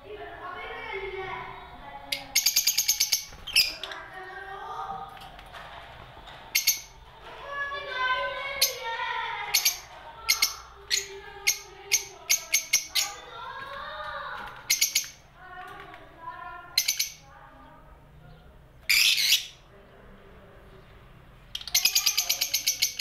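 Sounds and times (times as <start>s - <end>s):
lovebirds chirping: 0.1s - 23.0s.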